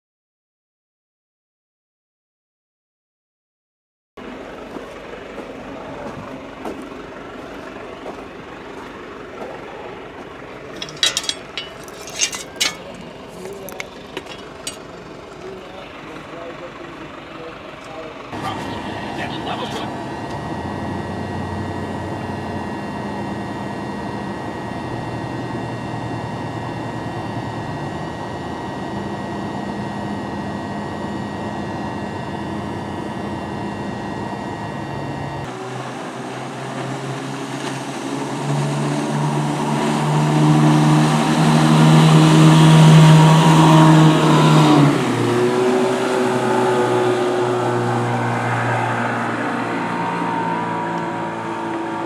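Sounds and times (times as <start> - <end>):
steady engine hum: 4.3 - 52.0
outboard motor running: 4.8 - 52.0.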